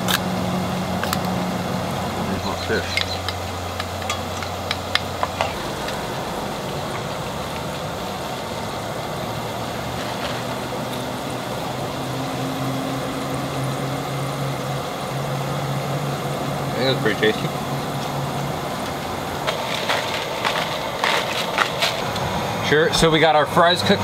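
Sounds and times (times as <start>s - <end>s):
low steady hum: 0.0s - 22.4s
fries sizzling in hot oil: 0.0s - 24.0s.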